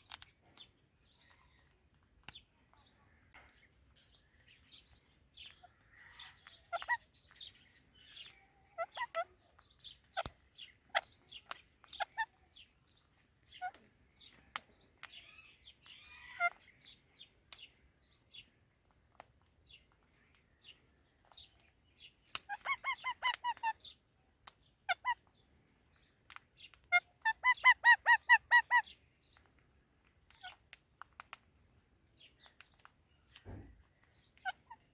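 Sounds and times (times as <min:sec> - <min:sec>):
parrots chirping and clicking: 0:00.0 - 0:34.9.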